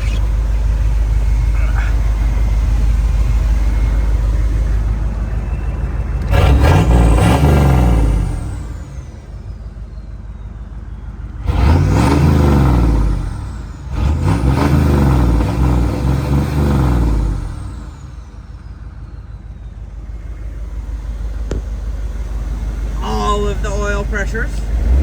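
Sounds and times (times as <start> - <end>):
diesel engine idling and revving: 0.0 - 25.0
turbo whine: 0.0 - 25.0.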